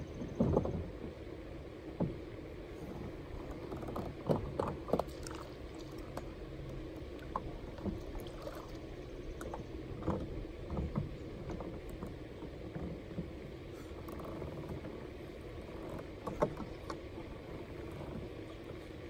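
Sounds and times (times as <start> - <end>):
steady low rumble: 0.0 - 19.0
knocks and small splashes: 0.1 - 19.0.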